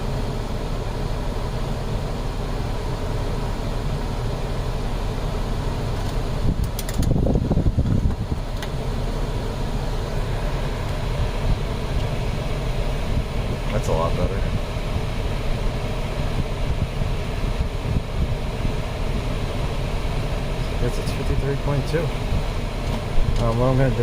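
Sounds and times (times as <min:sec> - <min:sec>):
blower fan running: 0:00.0 - 0:24.0
car engine idling: 0:00.0 - 0:24.0.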